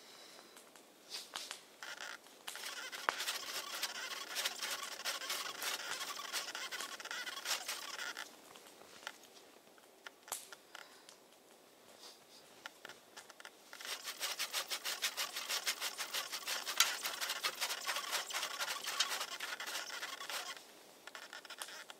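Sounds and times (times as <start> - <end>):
small irregular clicks: 0.5 - 11.6, 12.6 - 21.9
rustling and scratching: 1.1 - 10.9, 11.9 - 21.9.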